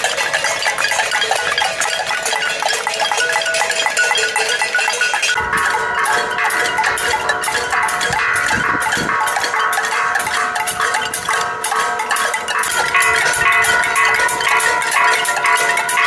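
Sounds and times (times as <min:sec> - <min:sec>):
banging metal pots and pans: 0:00.0 - 0:16.0.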